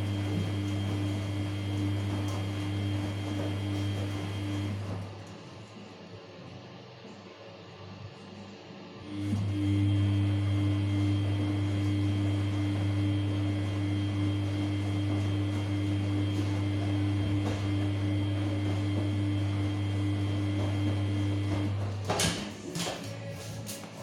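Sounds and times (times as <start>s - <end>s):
washing machine electric hum: 0.0s - 24.0s.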